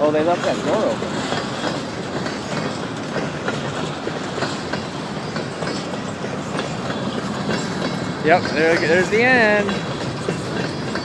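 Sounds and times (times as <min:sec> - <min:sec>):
train cars rumbling past: 0:00.0 - 0:11.0
wheels clacking over rail joints: 0:00.0 - 0:11.0.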